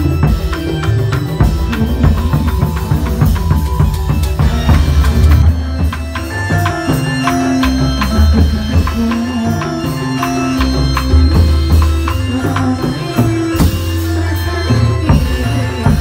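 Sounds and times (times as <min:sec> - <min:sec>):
drums and percussion: 0:00.0 - 0:16.0
held bass notes: 0:00.0 - 0:16.0
pitched melody: 0:00.0 - 0:16.0.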